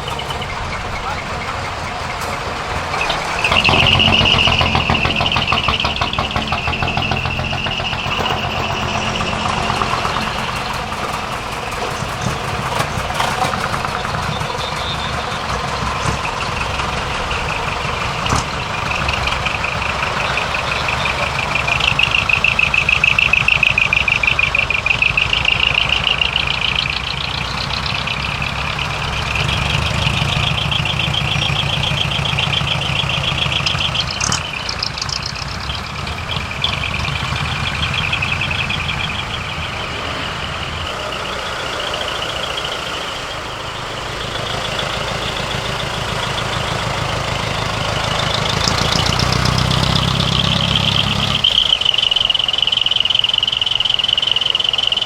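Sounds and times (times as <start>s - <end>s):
diesel truck engines: 0.0s - 55.0s.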